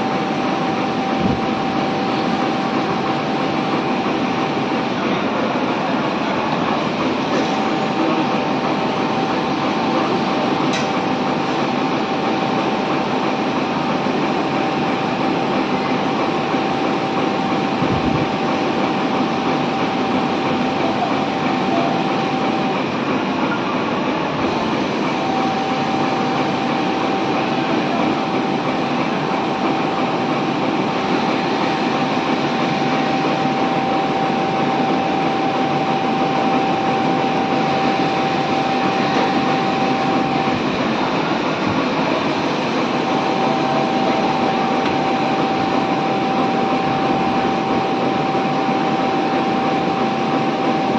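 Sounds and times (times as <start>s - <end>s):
constant mechanical whine: 0.0s - 50.9s
industrial sewing machinery: 0.0s - 50.9s.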